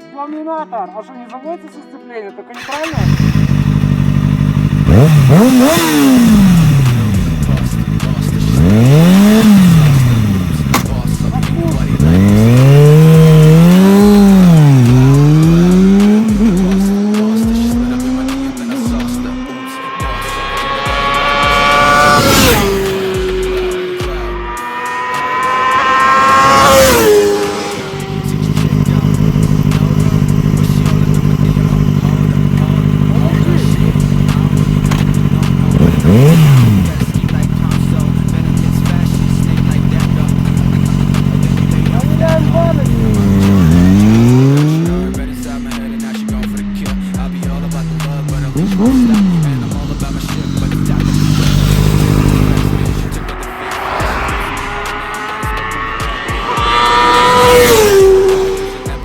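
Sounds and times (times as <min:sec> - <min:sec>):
motorcycle engine idling and revving: 0:02.6 - 0:59.0.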